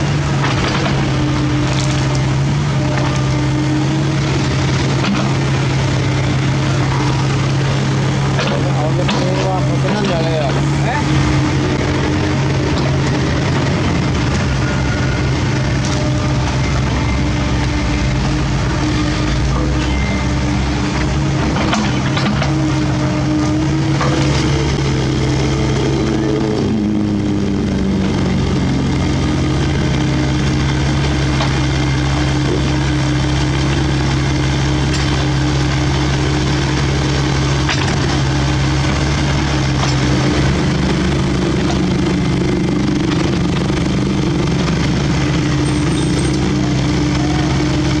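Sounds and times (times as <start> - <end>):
excavator diesel engine and hydraulics: 0.0 - 48.0.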